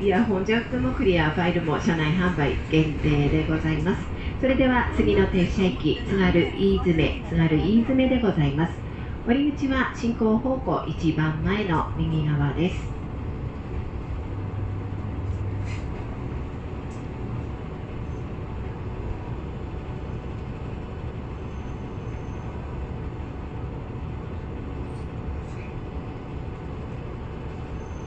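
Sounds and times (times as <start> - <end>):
low hum: 0.0 - 27.9
train engine and wheels rumbling: 0.0 - 28.0.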